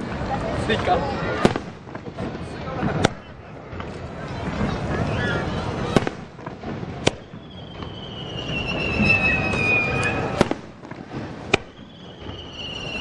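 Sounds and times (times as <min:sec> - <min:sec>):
firework bursts: 0:00.0 - 0:13.0
whistling firework: 0:00.0 - 0:13.0.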